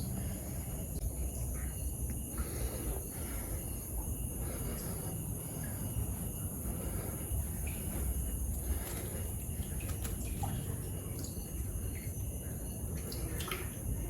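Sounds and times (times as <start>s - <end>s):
crickets and insects chirping: 0.0s - 14.0s.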